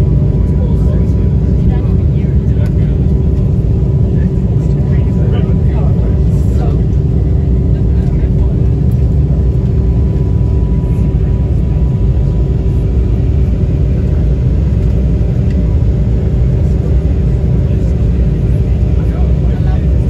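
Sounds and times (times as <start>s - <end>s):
aircraft cabin engine rumble: 0.0s - 20.0s
constant hum: 0.0s - 20.0s.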